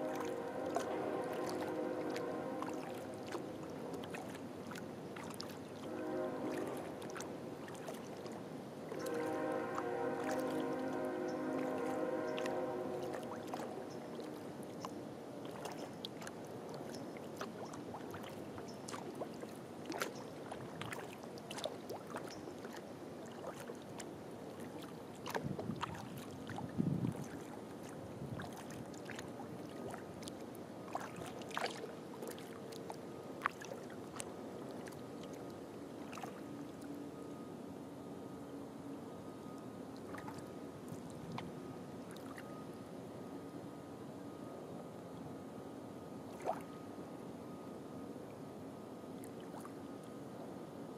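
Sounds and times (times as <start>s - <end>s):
paddle drips and splashes: 0.0s - 37.6s, 39.2s - 43.0s, 46.2s - 50.3s.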